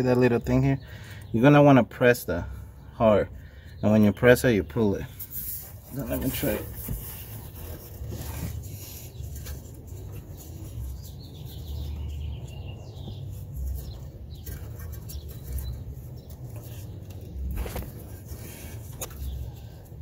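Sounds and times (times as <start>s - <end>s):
faint birds chirping: 0.0s - 20.0s.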